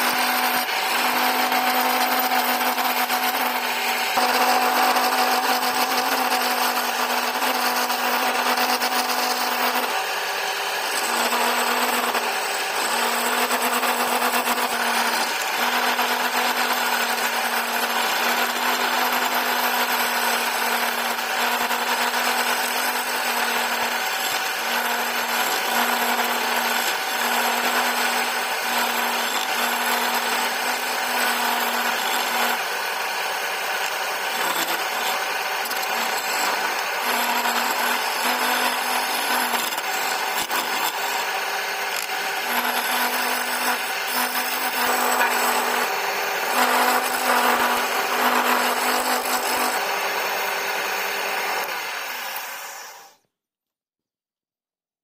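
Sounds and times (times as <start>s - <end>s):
chisel scraping spinning wood: 0.0s - 53.2s
wood lathe humming: 0.0s - 53.2s.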